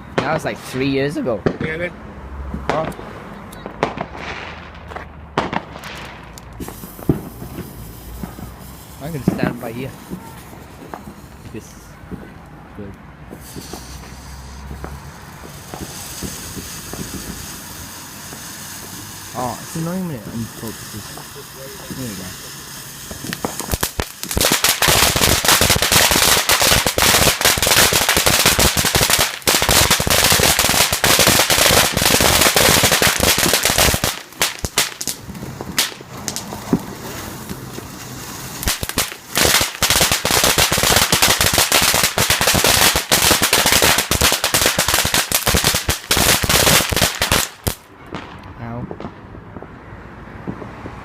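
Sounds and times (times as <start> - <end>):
fireworks crackling bangs: 0.0 - 51.0.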